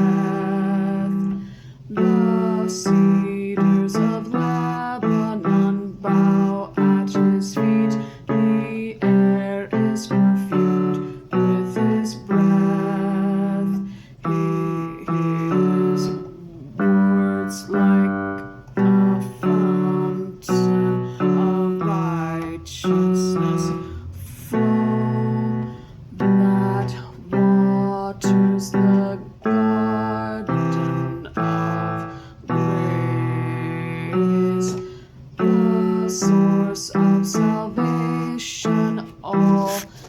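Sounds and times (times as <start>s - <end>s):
man singing a hymn: 0.0s - 40.0s
piano: 0.0s - 40.0s.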